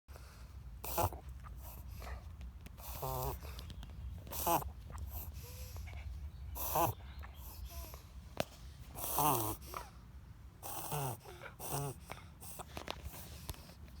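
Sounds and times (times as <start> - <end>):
dog wheezing and snorting: 0.2 - 8.1, 8.9 - 10.0, 10.6 - 13.8.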